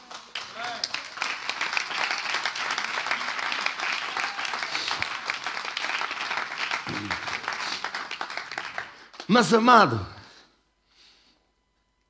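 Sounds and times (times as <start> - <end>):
people clapping: 0.0 - 10.0.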